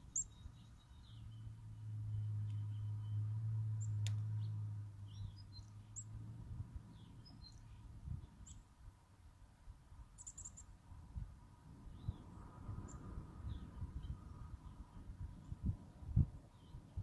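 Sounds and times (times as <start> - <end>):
birds chirping faintly: 0.0 - 9.2, 10.0 - 10.8, 11.8 - 17.0.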